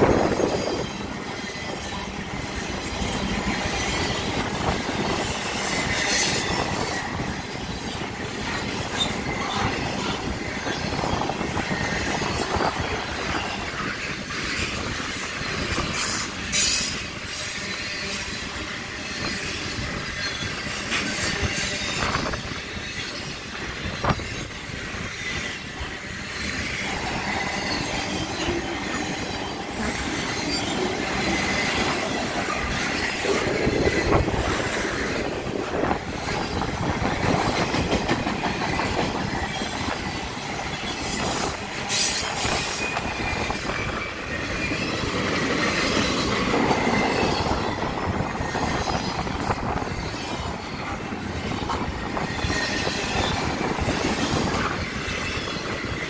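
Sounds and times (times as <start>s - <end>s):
high wheel squeal: 0.0s - 56.0s
train wheels rumbling and clattering: 0.0s - 56.0s.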